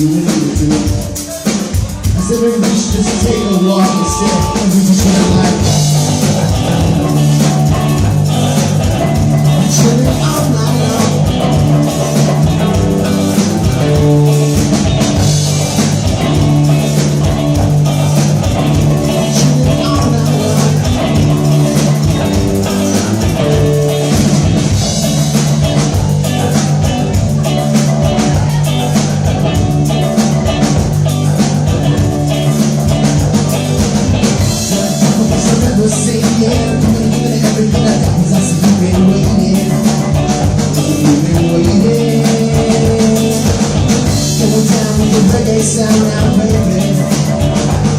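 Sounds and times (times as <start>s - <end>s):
bass: 0.0s - 47.9s
drum kit beat: 0.0s - 47.9s
guitar: 0.0s - 47.9s.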